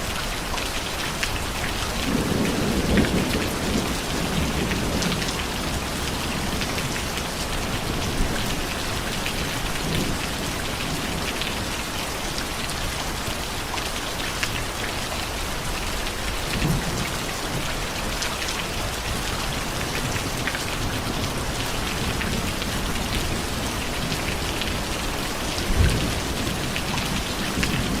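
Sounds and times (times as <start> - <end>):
heavy rain pattering: 0.0 - 28.0.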